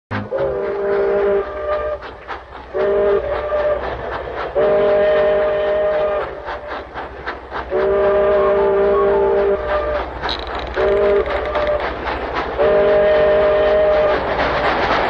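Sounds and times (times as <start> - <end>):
train whistle blasts: 0.1 - 6.9, 7.7 - 10.1, 10.7 - 12.0, 12.6 - 14.3
train clatter: 0.1 - 15.0.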